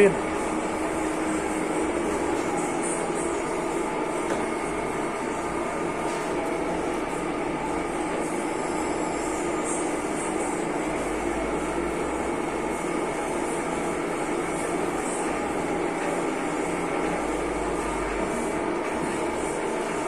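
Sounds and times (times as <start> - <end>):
lathe spindle and gears whirring: 0.0 - 20.0.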